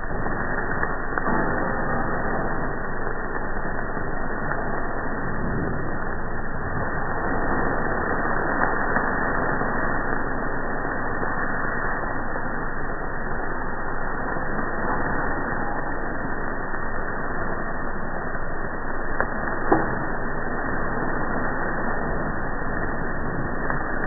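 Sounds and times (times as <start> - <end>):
slowed grill flames and sizzling: 0.0 - 24.0.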